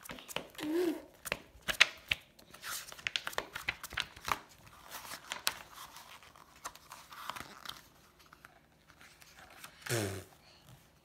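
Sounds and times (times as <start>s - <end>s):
pages turning: 0.0s - 9.9s.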